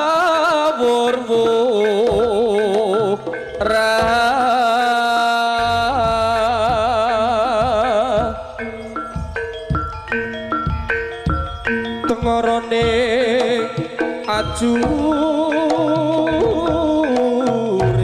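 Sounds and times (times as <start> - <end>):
gamelan tones: 0.0 - 18.0
ornamented high melody: 0.8 - 18.0.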